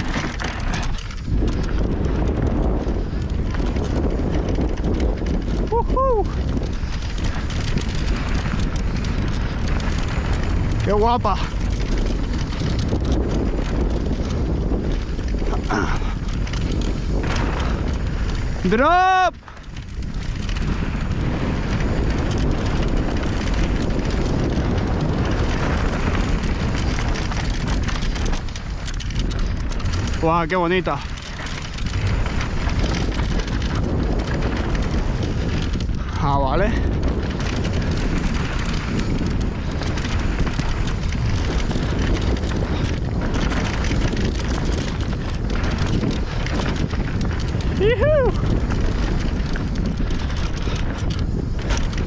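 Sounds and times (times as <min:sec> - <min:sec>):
bike rattling: 0:00.0 - 0:52.0
bike tyres rolling on dirt: 0:00.0 - 0:52.0
wind on microphone: 0:00.0 - 0:52.0.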